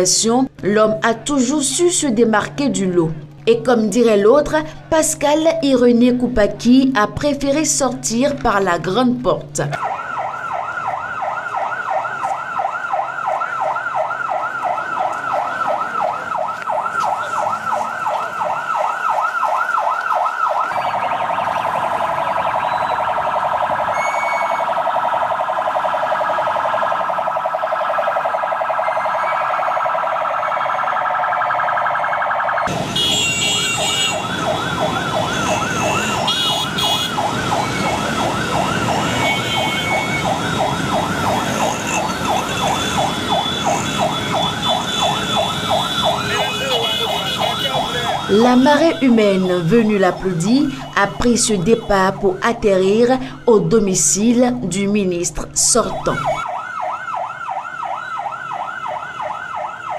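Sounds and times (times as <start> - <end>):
siren sweeping and warbling: 9.7 - 59.9.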